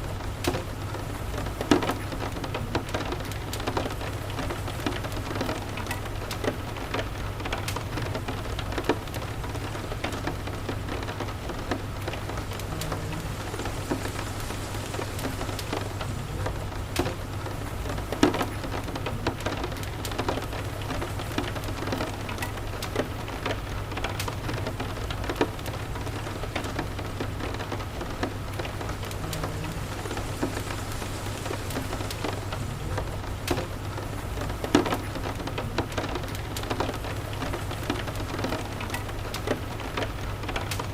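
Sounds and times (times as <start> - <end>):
steady rain: 0.0 - 40.9
fireplace crackling and popping: 0.1 - 40.9.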